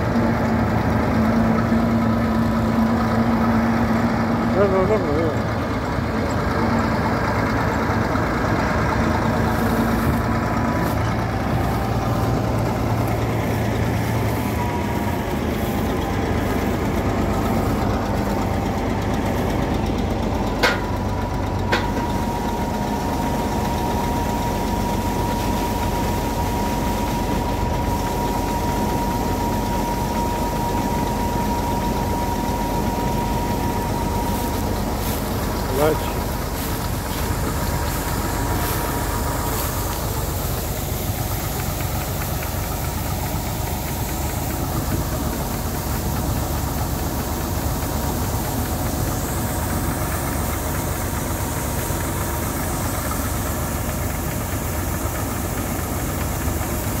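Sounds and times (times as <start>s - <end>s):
auger whine: 0.0s - 57.0s
combine harvester running: 0.0s - 57.0s.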